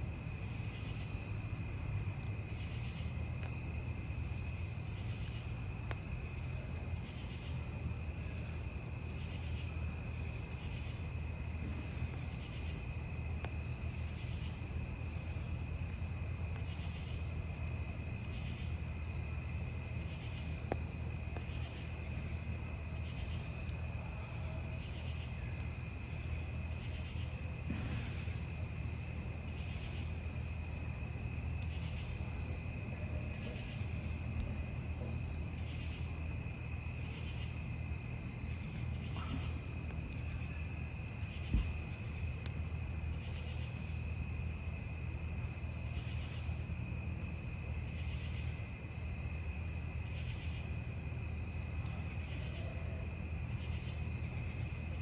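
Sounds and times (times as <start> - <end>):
campfire rumbling and crackling: 0.0 - 55.0
crickets chirping: 0.0 - 55.0.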